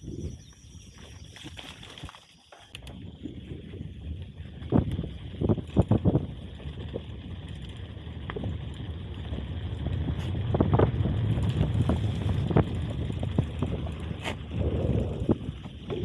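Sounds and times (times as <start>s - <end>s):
bike tyres rumbling on trail: 0.0s - 16.0s.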